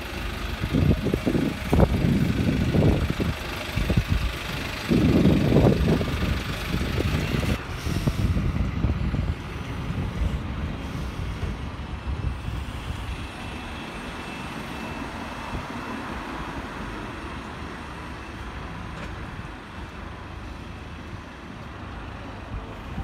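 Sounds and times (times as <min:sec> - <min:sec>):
bus pulling away: 0:00.0 - 0:23.0
street traffic: 0:00.0 - 0:23.0
wind gusting on microphone: 0:00.4 - 0:19.8.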